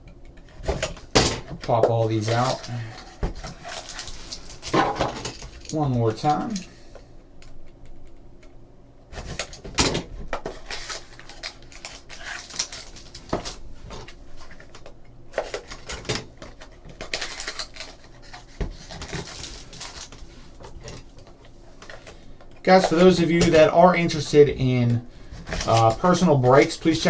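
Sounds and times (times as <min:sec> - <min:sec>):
foil wrappers rustling: 0:00.9 - 0:06.8, 0:09.2 - 0:27.0.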